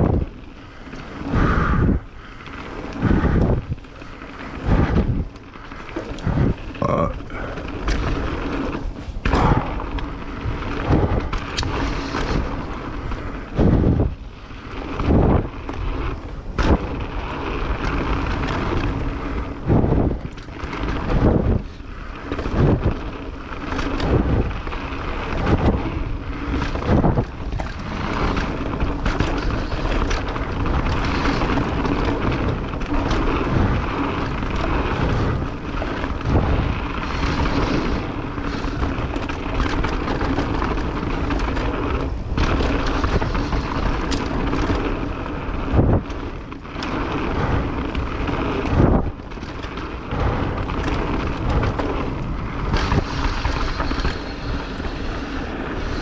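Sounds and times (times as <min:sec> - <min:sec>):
bike tyres rolling: 0:00.0 - 0:56.0
wind rushing over microphone: 0:00.0 - 0:56.0
bike knocking over bumps: 0:03.1 - 0:56.0.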